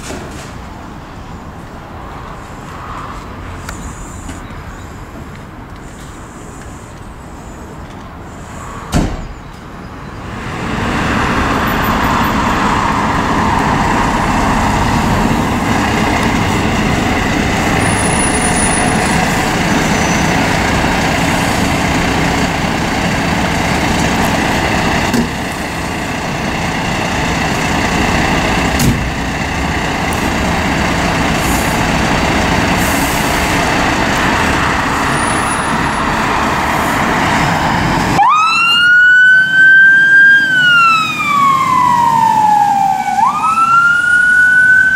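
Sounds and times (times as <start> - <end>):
diesel fire engine running: 0.0 - 8.8, 10.1 - 44.9.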